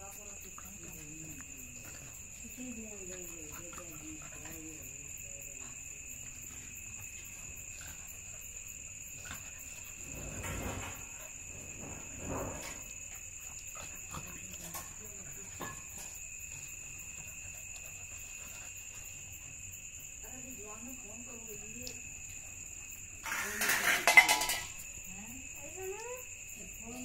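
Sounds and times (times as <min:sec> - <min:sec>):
dogs wrestling: 0:00.0 - 0:25.0
crickets trilling: 0:00.0 - 0:27.0.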